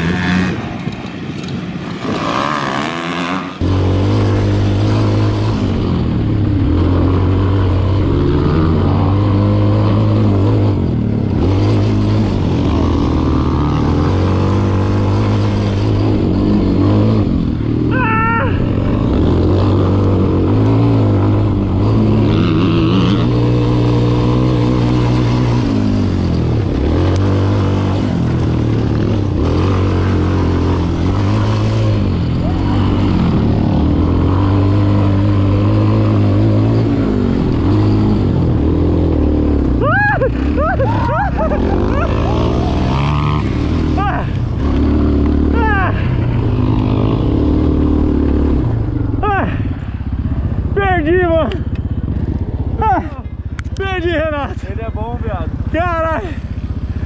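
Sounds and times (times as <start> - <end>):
quad bike engine revving: 0.0 - 57.0.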